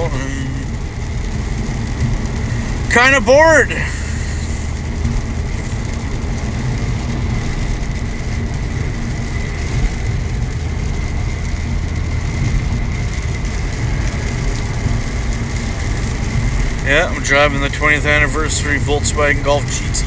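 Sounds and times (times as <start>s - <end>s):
engine and road drone: 0.0s - 20.0s
tyre hiss on wet road: 0.0s - 20.0s.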